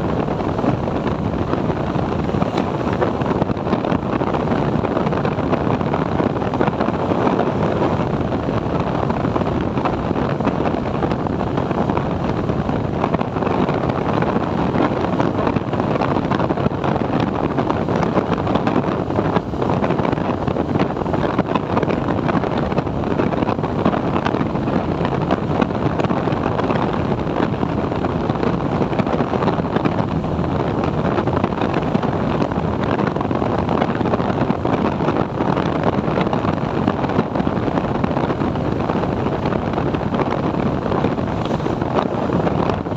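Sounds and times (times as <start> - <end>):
wind on microphone: 0.0 - 42.9.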